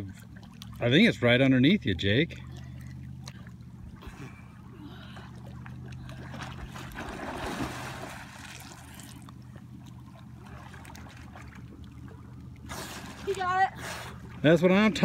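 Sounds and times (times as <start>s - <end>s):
steady low hum: 0.0s - 15.0s
water splashing: 0.0s - 15.0s.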